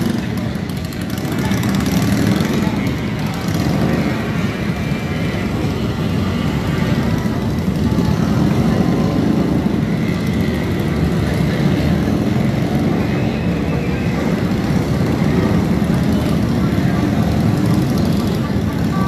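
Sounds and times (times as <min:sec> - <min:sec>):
many motorcycle engines running: 0:00.0 - 0:19.0.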